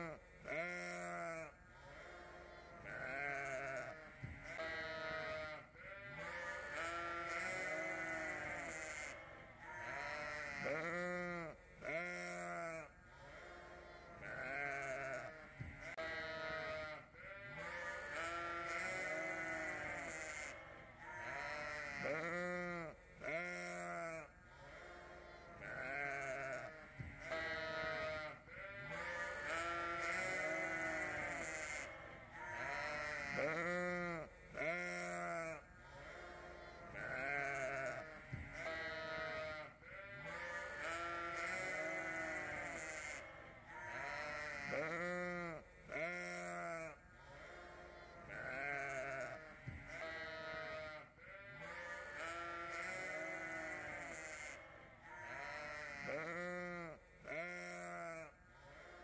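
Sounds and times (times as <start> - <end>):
sheep bleating: 0.0 - 59.0.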